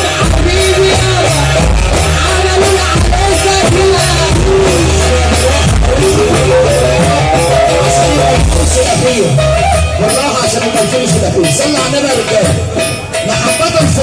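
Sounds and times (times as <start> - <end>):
heavy bass and drums: 0.0 - 14.0
wavering keyboard melody: 0.0 - 14.0.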